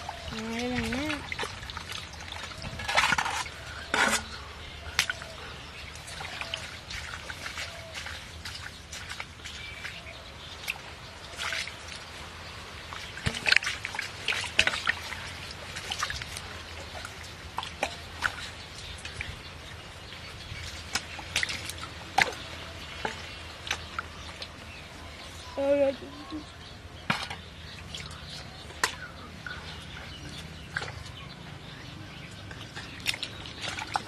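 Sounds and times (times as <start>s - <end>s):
water splashing and pouring: 0.0s - 25.2s, 26.2s - 34.0s.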